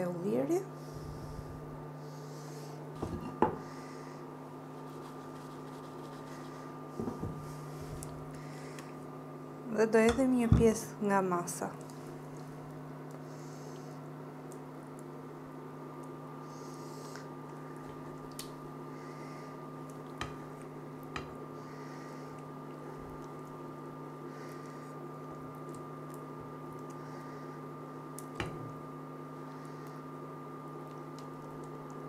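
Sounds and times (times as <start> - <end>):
electric cooktop hum: 0.0 - 32.0.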